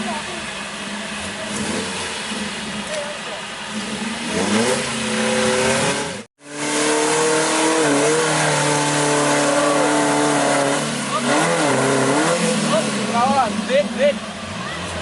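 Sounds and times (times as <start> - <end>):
jeep engine running hard: 0.0 - 15.0.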